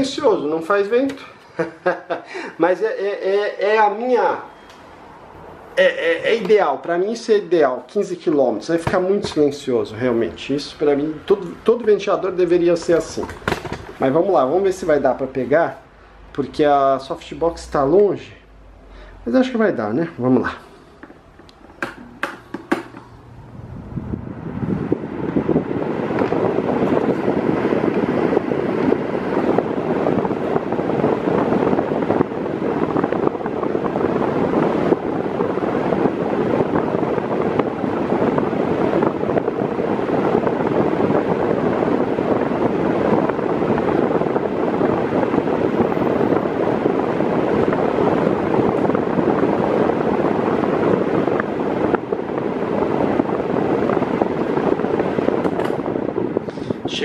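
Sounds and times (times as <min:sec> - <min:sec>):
fan rushing air: 0:00.0 - 0:57.0.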